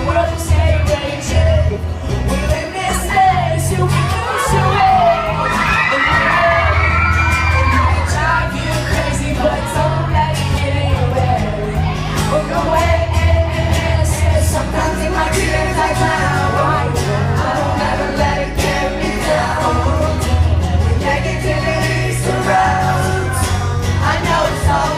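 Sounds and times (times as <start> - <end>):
acoustic pop band with singing: 0.0 - 24.9.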